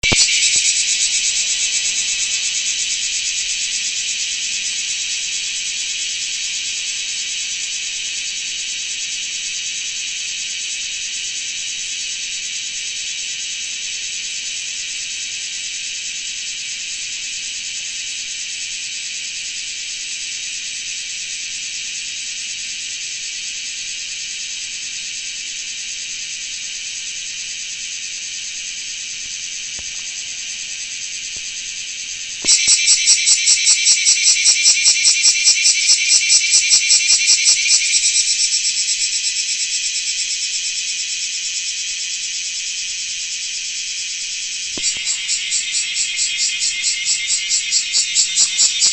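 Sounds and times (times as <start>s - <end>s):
cicada rasping drone: 0.0s - 48.9s.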